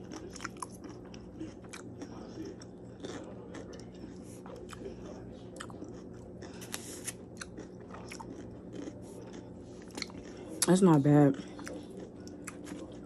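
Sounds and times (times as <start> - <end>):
low steady hum: 0.0 - 13.0
person chewing crunchy salad: 0.0 - 13.0.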